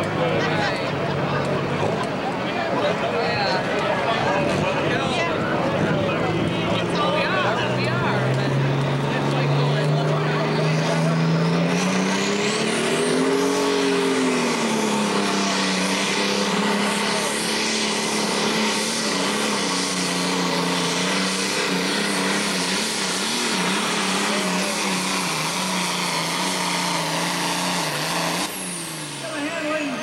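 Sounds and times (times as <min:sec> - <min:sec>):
tractor diesel engine roaring: 0:00.0 - 0:30.0.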